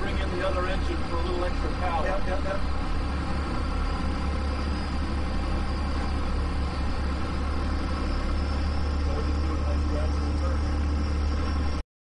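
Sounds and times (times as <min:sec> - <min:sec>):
boat engine droning: 0:00.0 - 0:11.8.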